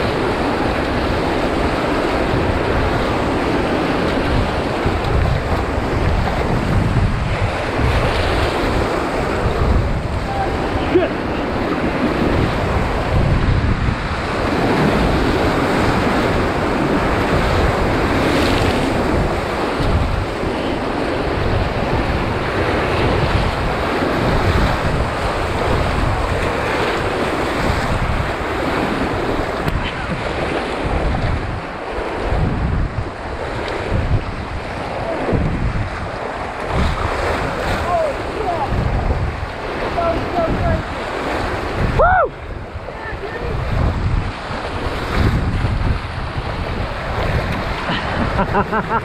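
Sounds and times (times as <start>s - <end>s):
whitewater rushing and splashing: 0.0s - 49.0s
wind buffeting microphone: 0.0s - 49.0s.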